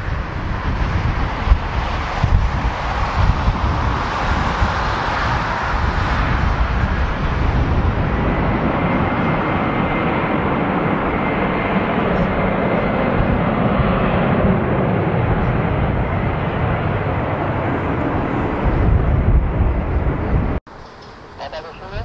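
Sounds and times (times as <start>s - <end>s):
jet engines rushing: 0.0s - 22.0s.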